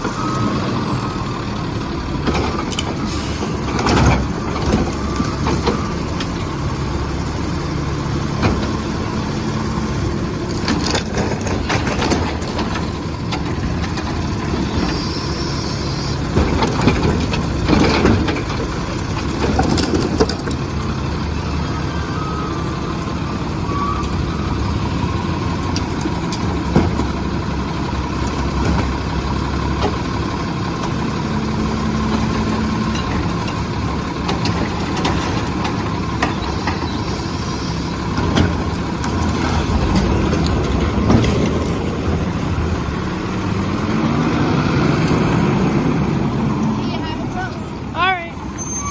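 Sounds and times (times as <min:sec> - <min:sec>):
garbage truck engine humming: 0:00.0 - 0:48.9.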